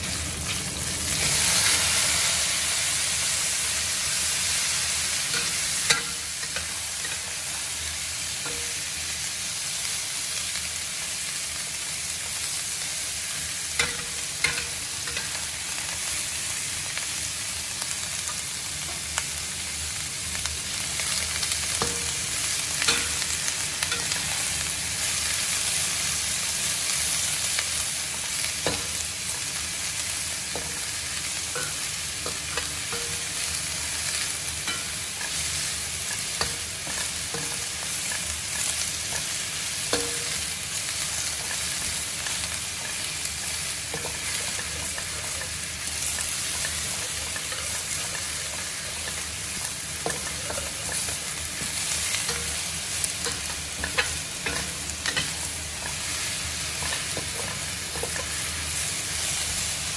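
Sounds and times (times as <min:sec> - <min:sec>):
food sizzling in a wok: 0:00.0 - 0:59.9.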